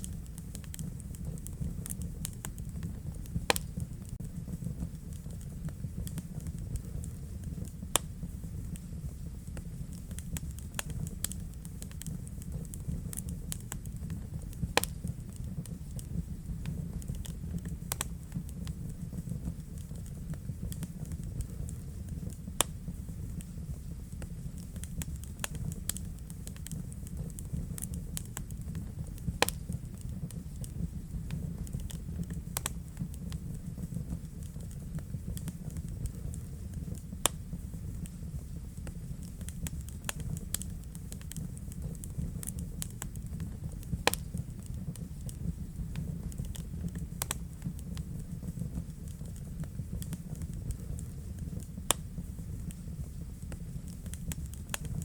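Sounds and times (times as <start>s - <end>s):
fire crackling and popping: 0.0s - 55.0s
wood fire burning: 0.0s - 55.0s.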